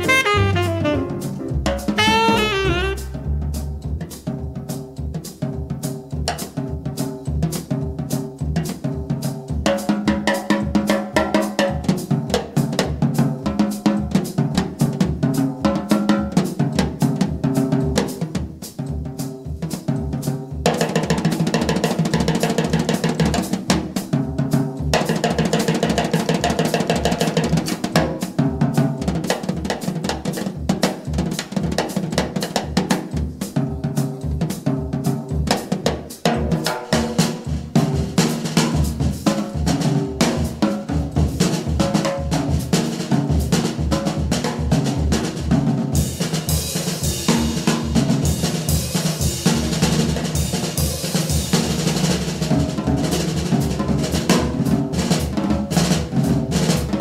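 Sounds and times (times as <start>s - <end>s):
jazz drum solo: 0.0s - 57.0s.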